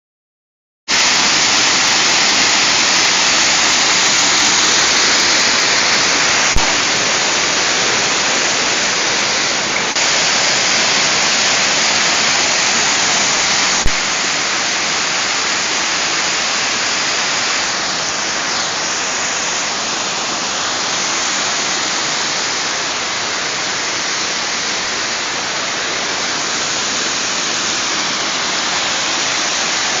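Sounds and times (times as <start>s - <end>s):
waterfall rushing: 0.9s - 30.0s.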